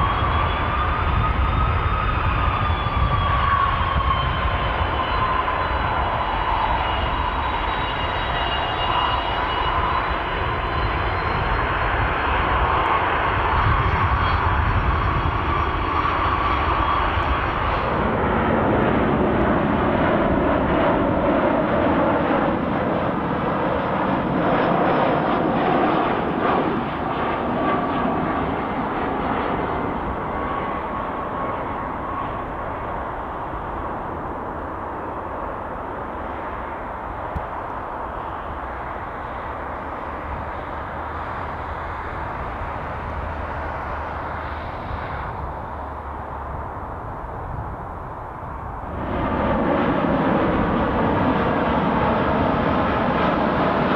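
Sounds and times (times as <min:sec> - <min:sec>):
jet airliner engines humming: 0:00.0 - 0:53.9
jet airliner engines rumbling: 0:00.0 - 0:53.9.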